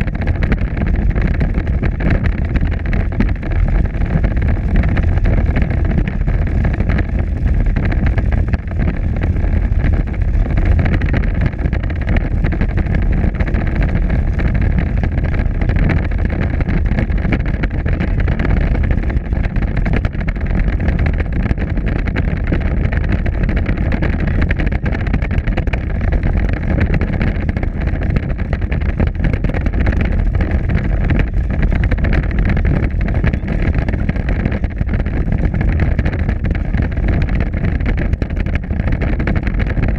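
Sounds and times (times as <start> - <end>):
hard wheels rumbling on pavement: 0.0 - 39.9.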